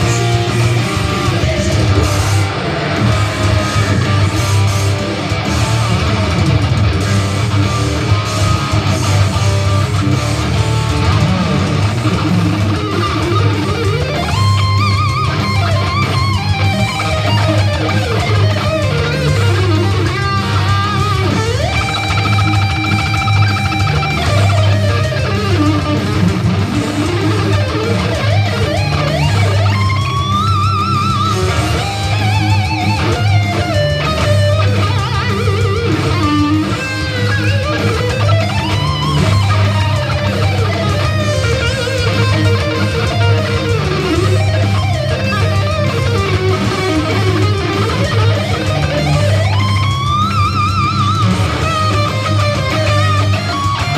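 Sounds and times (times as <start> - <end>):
electric guitar metal lead: 0.0 - 53.9
steady low rhythm: 0.0 - 53.9.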